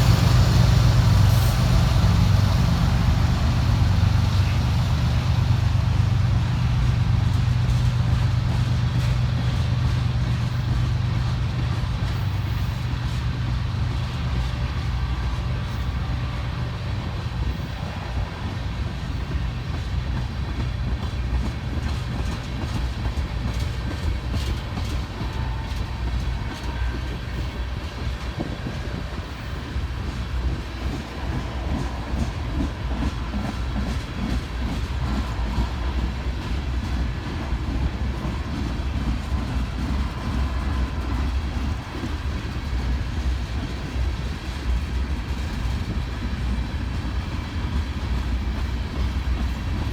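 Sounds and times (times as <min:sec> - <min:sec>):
train wheels clattering on rails: 0:00.0 - 0:49.9.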